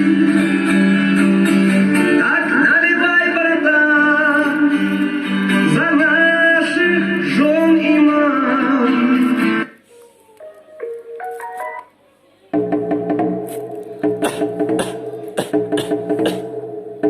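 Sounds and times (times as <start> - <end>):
song through television speakers: 0.0 - 17.0.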